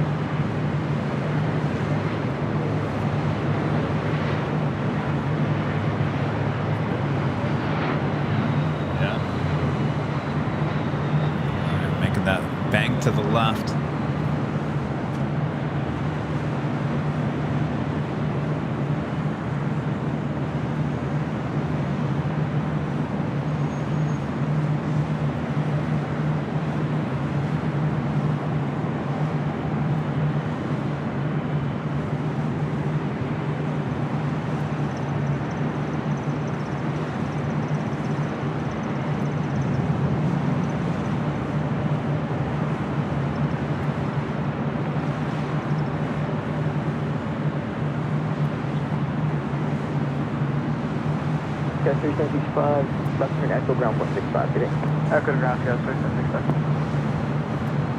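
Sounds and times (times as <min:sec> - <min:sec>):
jet engines low rumble: 0:00.0 - 0:57.9.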